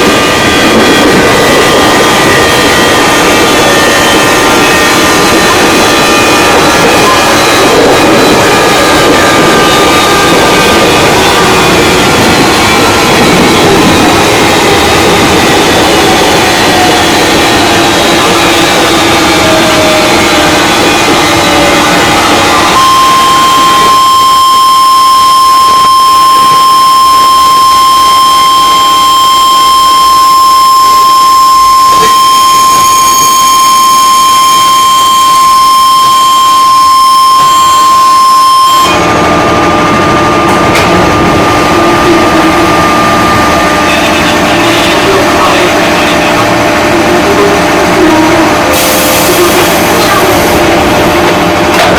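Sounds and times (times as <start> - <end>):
heavy low rumble: 0.0 - 51.9
train high-pitched whine: 0.0 - 51.9
train running noise: 0.0 - 51.9
weaker higher tone: 0.0 - 51.9.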